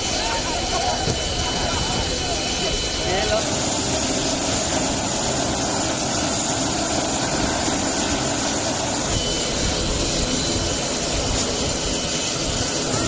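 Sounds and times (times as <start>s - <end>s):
aircraft engines running: 0.0s - 13.0s
thin high whine: 0.0s - 13.0s.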